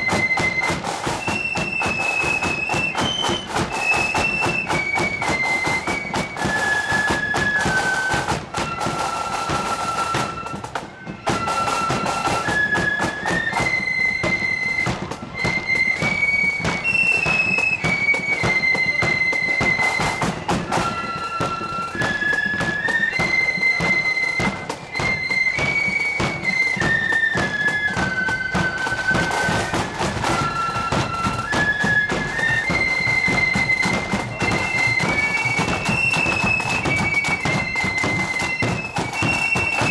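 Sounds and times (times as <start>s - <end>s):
flutes playing melody: 0.0s - 39.9s
snare and bass drums: 0.0s - 39.9s.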